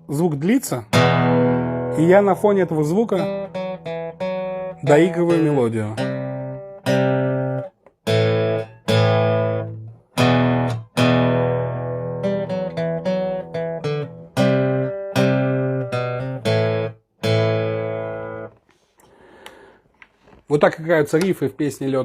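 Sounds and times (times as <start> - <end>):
guitar playing a riff: 0.9 - 18.6.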